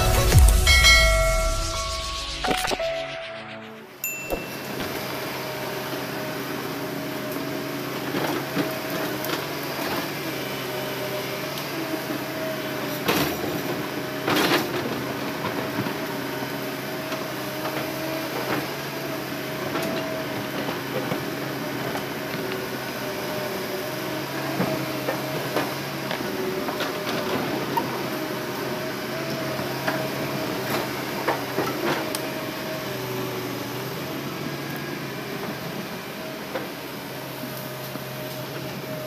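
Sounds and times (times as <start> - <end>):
excavator diesel engine whining: 0.0 - 39.0.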